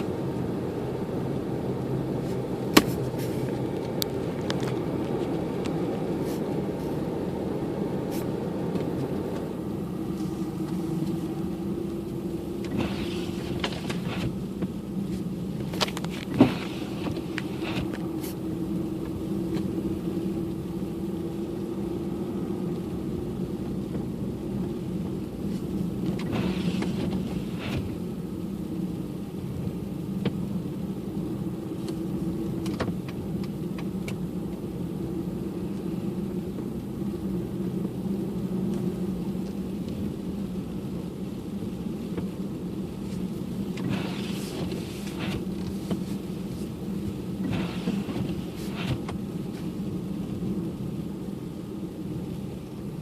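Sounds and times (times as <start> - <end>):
car engine and road drone: 0.0 - 53.0.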